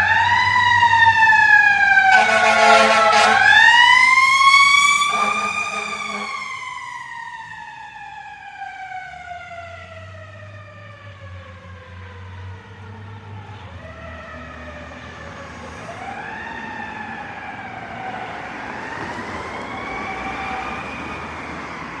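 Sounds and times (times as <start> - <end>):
fire engine siren wailing: 0.0 - 22.0.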